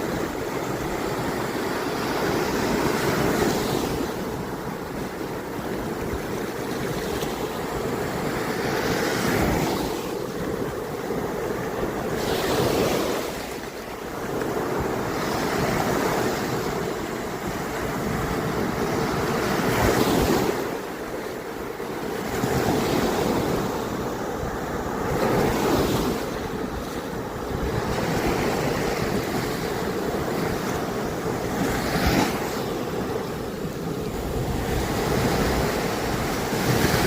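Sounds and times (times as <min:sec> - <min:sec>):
ocean surf breaking on beach: 0:00.0 - 0:37.0
wind buffeting microphone: 0:00.0 - 0:37.0.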